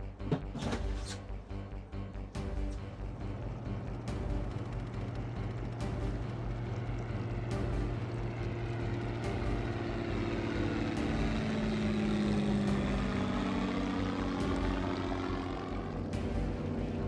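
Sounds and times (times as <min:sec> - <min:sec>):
propeller airplane engine drone: 0:00.0 - 0:17.0.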